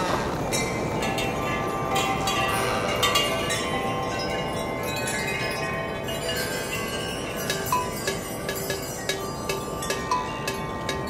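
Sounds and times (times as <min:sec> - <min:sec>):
metal chimes ringing: 0:00.0 - 0:11.0.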